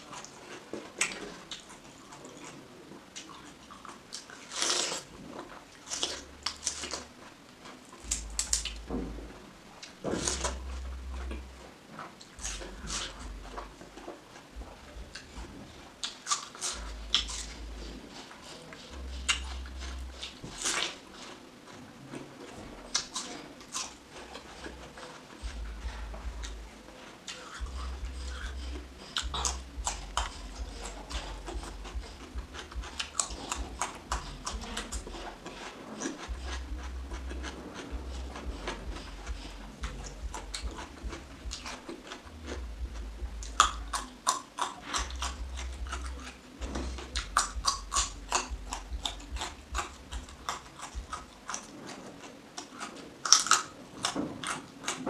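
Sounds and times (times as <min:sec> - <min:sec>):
crisp crunches of vegetables chewed: 0:00.0 - 0:55.0.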